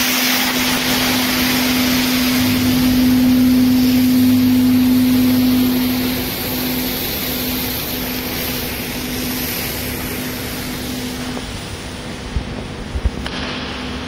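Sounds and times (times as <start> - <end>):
low hum: 0.0 - 14.0
ship machinery noise: 0.0 - 14.0.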